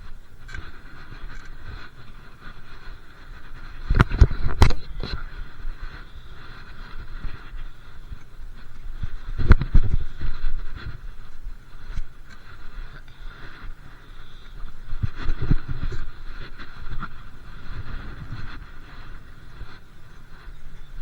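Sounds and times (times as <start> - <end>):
bike riding rumble: 0.0 - 21.0.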